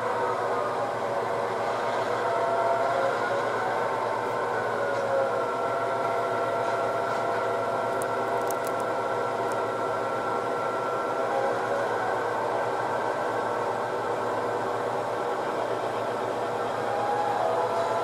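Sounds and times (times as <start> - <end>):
model train whirring: 0.0 - 18.0.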